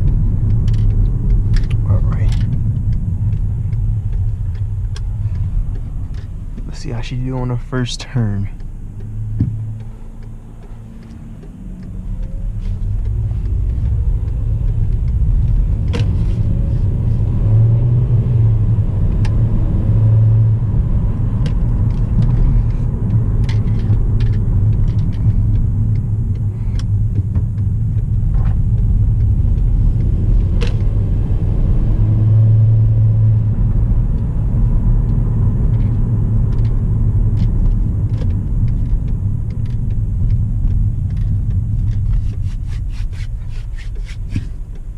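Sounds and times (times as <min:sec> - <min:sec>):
sharp clicks and knocks: 0:00.0 - 0:16.8, 0:21.2 - 0:30.9, 0:35.1 - 0:44.9
car engine and road rumble: 0:00.0 - 0:44.9.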